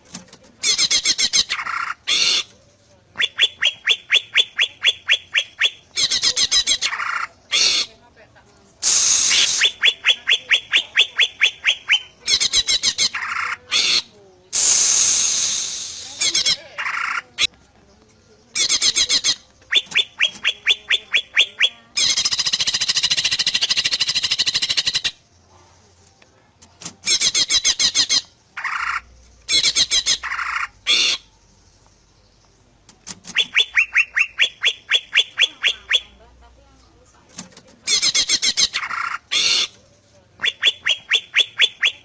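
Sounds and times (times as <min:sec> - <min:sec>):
bird singing varied phrases: 0:00.6 - 0:08.0, 0:08.8 - 0:17.6, 0:18.3 - 0:25.3, 0:27.0 - 0:36.5, 0:37.8 - 0:42.0.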